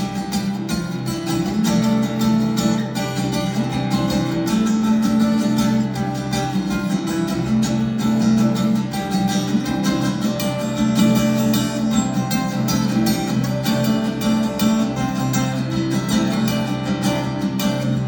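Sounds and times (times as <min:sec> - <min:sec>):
acoustic guitar picking: 0:00.0 - 0:18.0.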